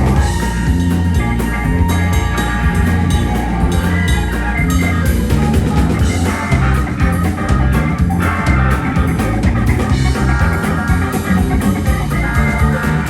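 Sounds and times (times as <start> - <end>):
country-rock band playing: 0.0 - 13.0.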